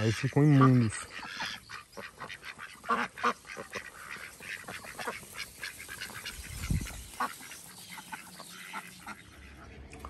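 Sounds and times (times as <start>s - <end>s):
ducks quacking: 0.0s - 10.0s.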